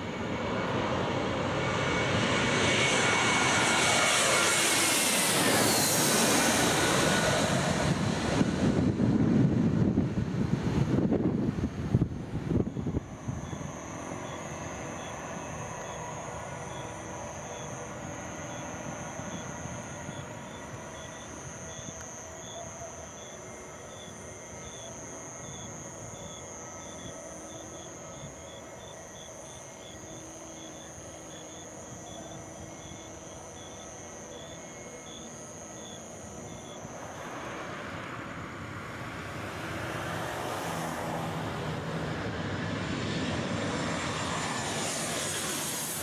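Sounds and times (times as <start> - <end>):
distant jet engines rumbling: 0.0 - 46.0.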